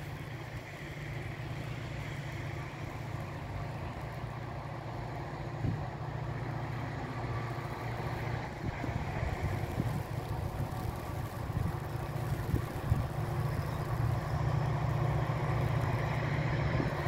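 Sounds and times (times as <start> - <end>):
distant diesel locomotive droning: 0.0 - 17.0.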